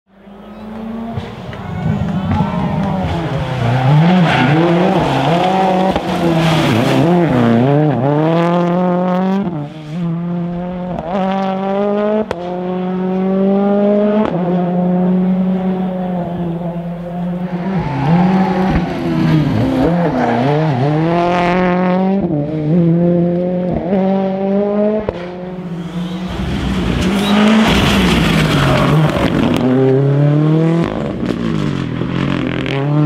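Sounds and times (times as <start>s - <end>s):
rally car engine at full throttle: 0.1s - 33.0s.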